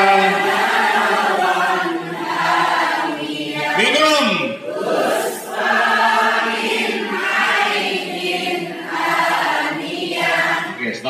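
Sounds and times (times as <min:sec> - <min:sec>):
group reciting in unison: 0:00.0 - 0:11.0.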